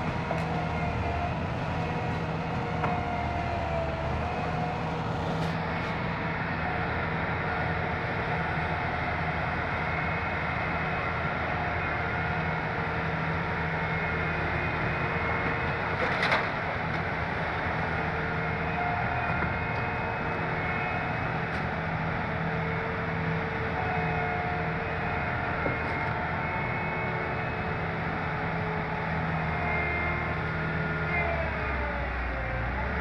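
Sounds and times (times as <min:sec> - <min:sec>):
excavator engine drone: 0:00.0 - 0:33.0.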